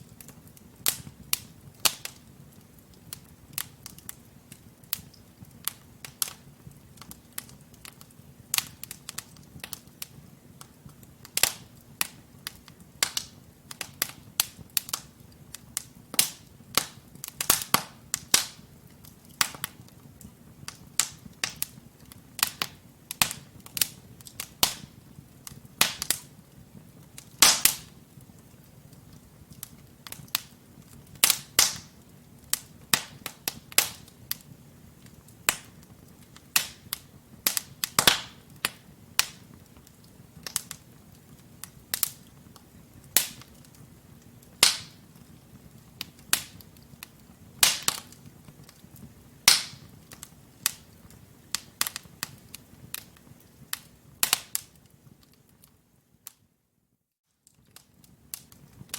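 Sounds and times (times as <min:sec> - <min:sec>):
logs crackling and popping: 0:00.0 - 0:56.4, 0:57.4 - 0:58.9
faint hiss of flames: 0:00.0 - 0:58.9.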